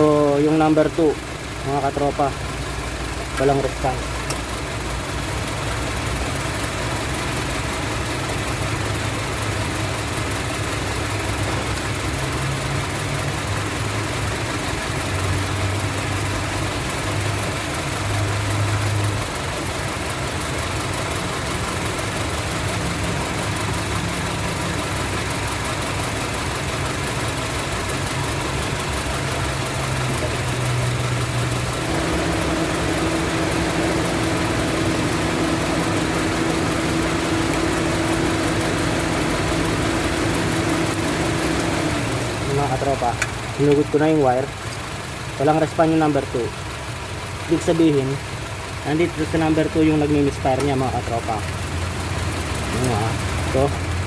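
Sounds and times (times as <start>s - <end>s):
car engine idling roughly: 0.0s - 54.0s.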